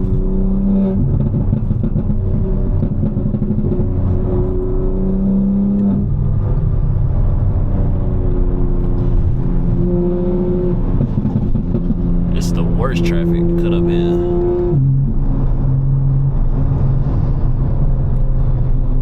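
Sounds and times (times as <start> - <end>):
car engine drone: 0.0 - 19.0.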